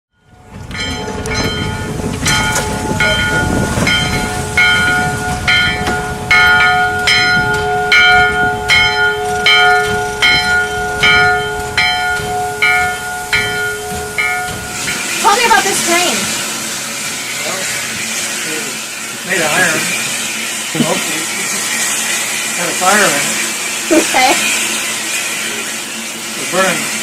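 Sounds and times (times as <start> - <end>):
locomotive bell ringing: 0.1 - 27.0.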